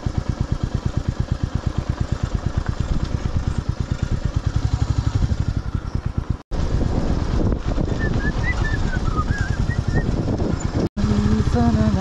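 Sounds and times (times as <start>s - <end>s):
motorcycle engine thumping: 0.0s - 12.0s.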